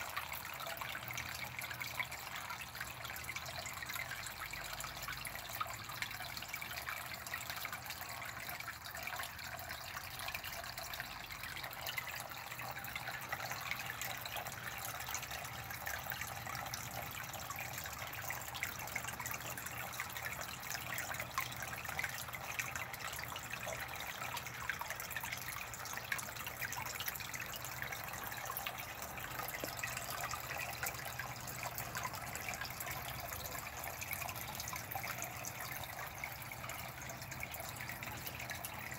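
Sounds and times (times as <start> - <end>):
water trickling into pond: 0.0 - 38.9.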